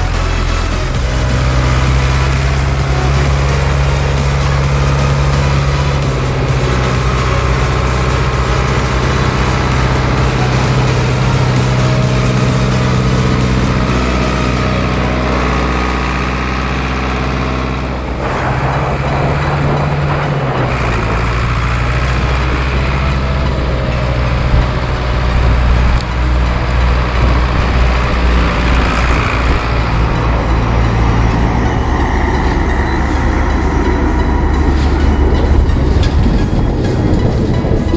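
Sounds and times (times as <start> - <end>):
farm machinery engine drone: 0.0 - 37.9.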